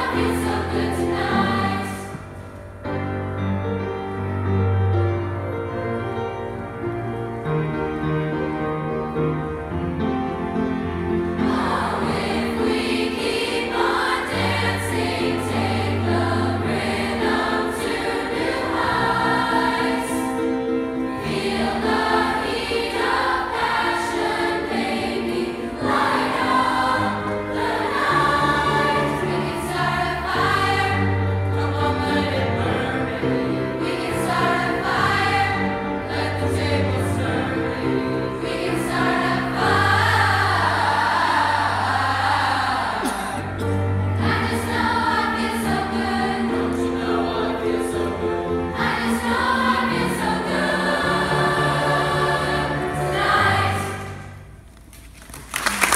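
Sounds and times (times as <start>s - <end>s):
choir singing: 0.0s - 2.6s, 11.0s - 54.5s
piano accompaniment: 0.0s - 55.1s.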